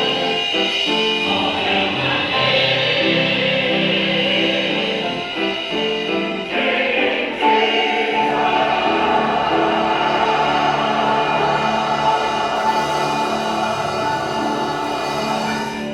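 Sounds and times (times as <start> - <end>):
church choir singing: 0.0 - 15.9.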